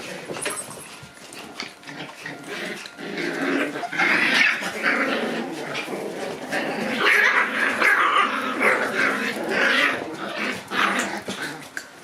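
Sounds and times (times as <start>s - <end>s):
puppies yapping: 0.0s - 12.0s.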